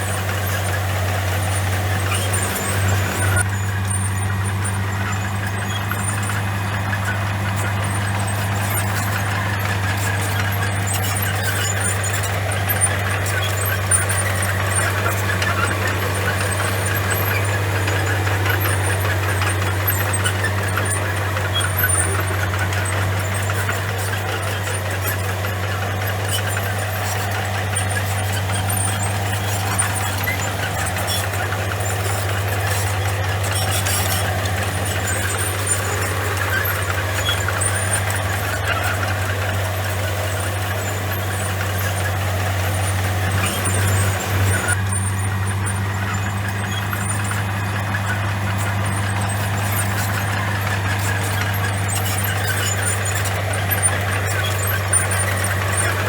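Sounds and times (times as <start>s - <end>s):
bulldozer diesel engine droning: 0.0s - 56.0s
high squeaks and clinks: 0.0s - 56.0s.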